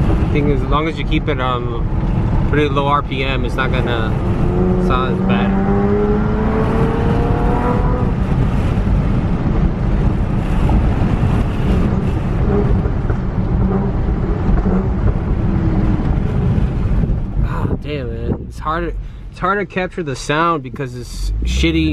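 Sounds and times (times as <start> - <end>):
car engine revving: 0.0 - 21.9
exhaust popping: 0.0 - 21.9
wind and road rumble: 0.0 - 21.9.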